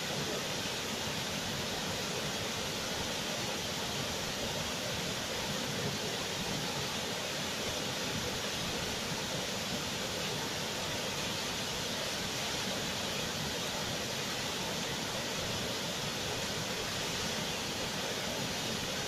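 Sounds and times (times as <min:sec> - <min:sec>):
waterfall cascading over rocks: 0:00.0 - 0:19.0.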